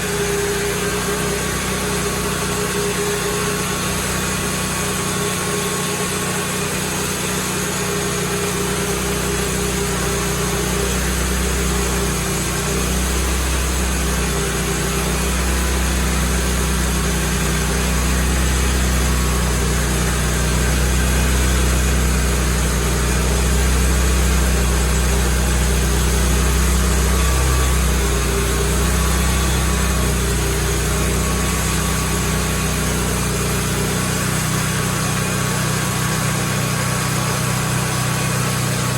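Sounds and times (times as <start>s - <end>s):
sawmill engine rumbling: 0.0s - 38.9s.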